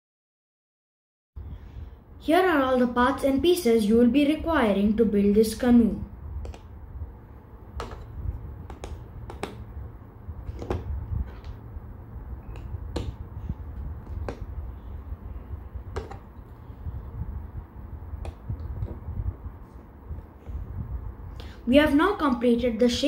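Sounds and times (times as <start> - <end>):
low steady rumble: 1.4 - 23.0.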